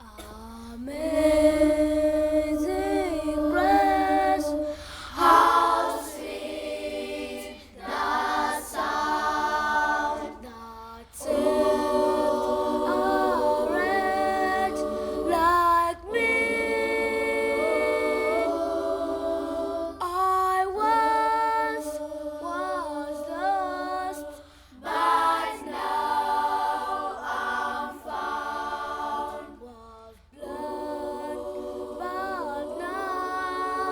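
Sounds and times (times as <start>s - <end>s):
children's choir singing: 0.0s - 33.9s.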